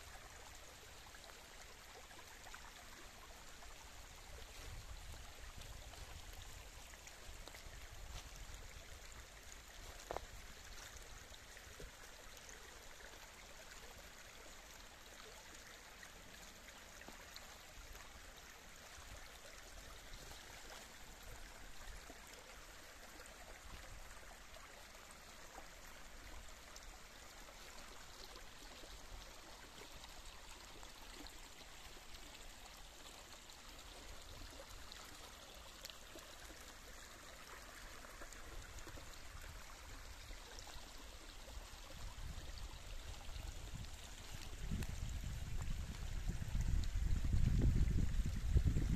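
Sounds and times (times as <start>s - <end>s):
stream babbling: 0.0s - 48.9s.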